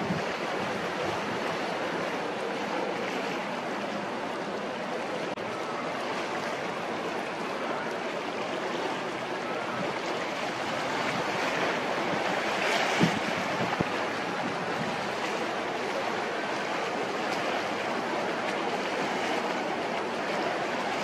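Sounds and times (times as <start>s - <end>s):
choppy harbour water: 0.0s - 21.0s
steady wind: 0.0s - 21.0s.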